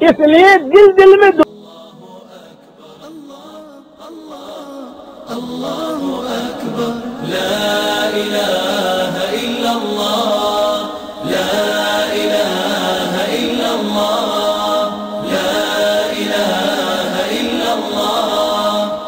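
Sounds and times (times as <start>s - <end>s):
voices chanting a cappella: 1.2s - 19.0s
steady held vocal tone: 1.3s - 19.0s.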